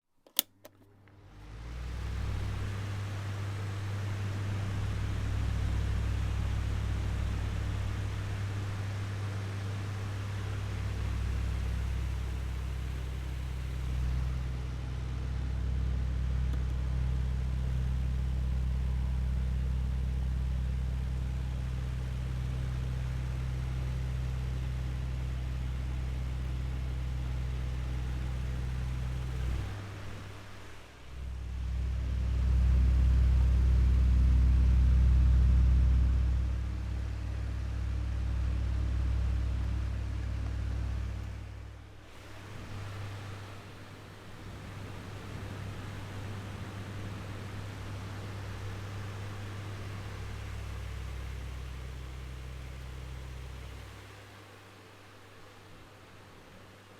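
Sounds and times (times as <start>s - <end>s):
electric fan running: 0.3s - 56.9s.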